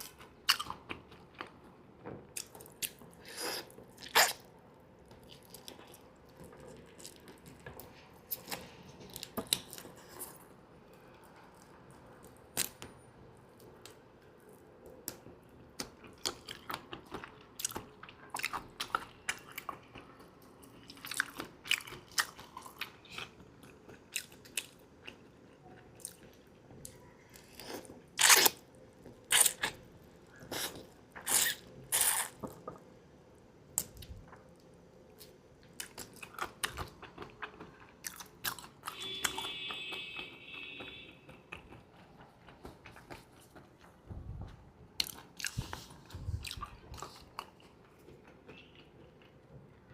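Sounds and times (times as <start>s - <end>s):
chewing and crunching seafood: 0.0s - 32.8s, 33.7s - 49.9s.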